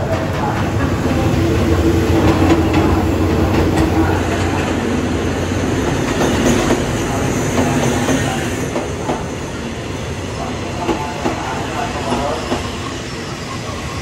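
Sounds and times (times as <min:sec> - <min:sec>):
train wheels clattering on rails: 0:00.0 - 0:09.7, 0:10.4 - 0:14.0
locomotive engine hum: 0:00.0 - 0:14.0.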